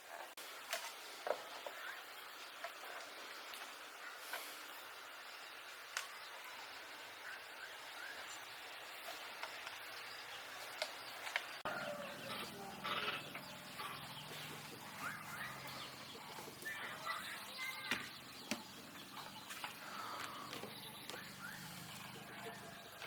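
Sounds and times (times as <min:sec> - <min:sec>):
birds chirping: 0:00.1 - 0:23.0.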